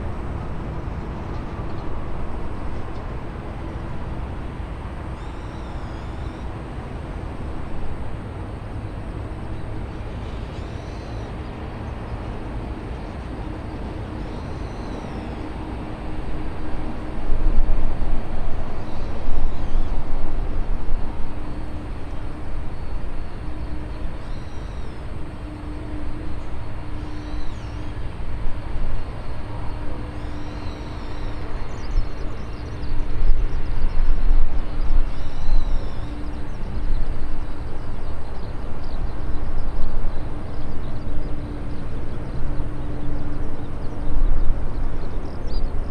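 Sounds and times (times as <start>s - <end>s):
steady low rumble: 0.0s - 45.9s
wind buffeting microphone: 0.0s - 45.9s.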